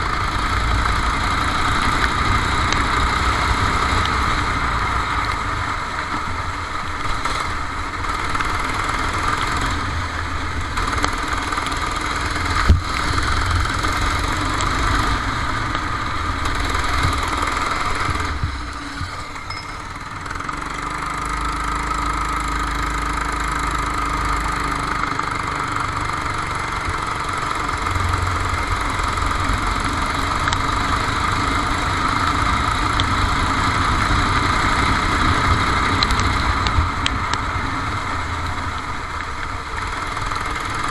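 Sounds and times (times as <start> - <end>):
kart engine running: 0.0 - 40.9.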